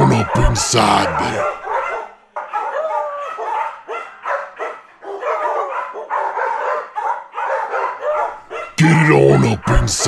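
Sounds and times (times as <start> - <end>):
dog barking: 0.0 - 10.0.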